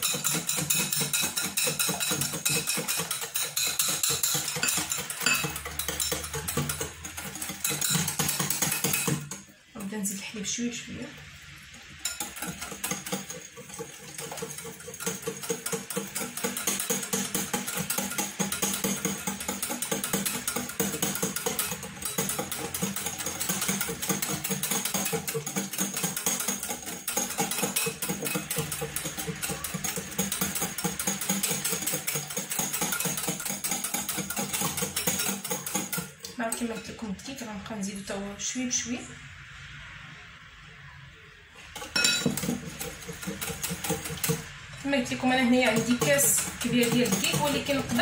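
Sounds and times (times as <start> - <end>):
whisk clicking in glass bowl: 0.0 - 9.4, 12.0 - 36.9, 41.8 - 44.5, 45.2 - 48.0.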